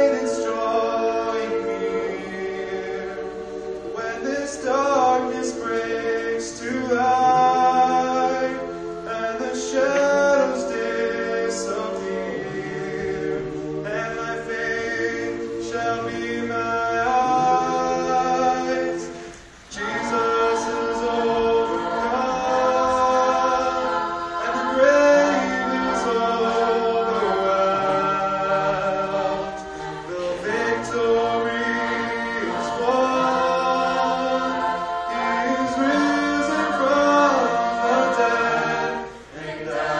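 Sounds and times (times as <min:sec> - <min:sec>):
group singing a cappella: 0:00.0 - 0:39.9.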